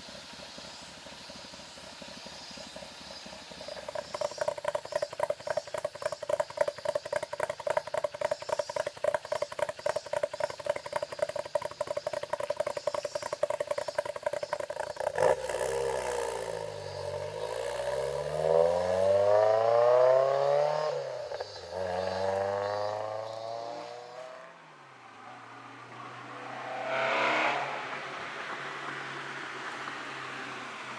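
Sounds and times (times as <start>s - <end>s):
cicadas droning: 0.0s - 25.4s
car engine revving: 3.0s - 24.6s, 25.3s - 30.9s.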